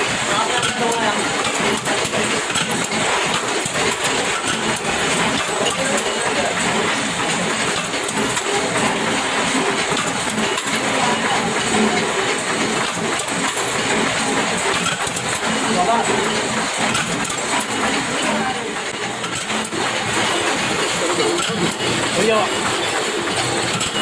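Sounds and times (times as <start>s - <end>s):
machinery running: 0.0s - 24.0s
metal parts clicking and knocking: 0.5s - 24.0s.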